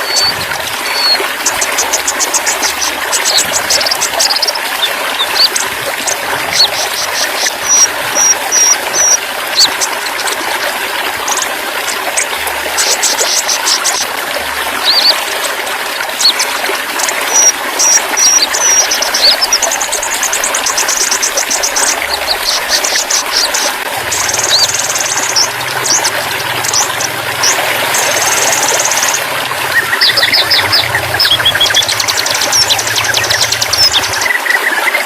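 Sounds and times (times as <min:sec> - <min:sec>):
songbirds chirping and trilling: 0:00.0 - 0:14.0, 0:16.2 - 0:35.0
trickling running water: 0:00.0 - 0:35.0.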